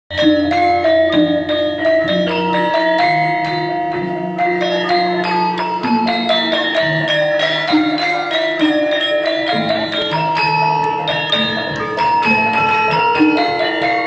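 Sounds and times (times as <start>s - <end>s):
low tone: 0.1s - 14.0s
metallophones and gongs struck: 0.1s - 14.0s.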